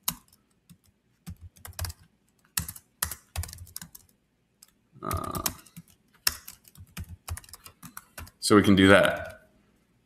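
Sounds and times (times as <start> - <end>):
computer keyboard typing: 0.0 - 8.4, 9.0 - 9.4.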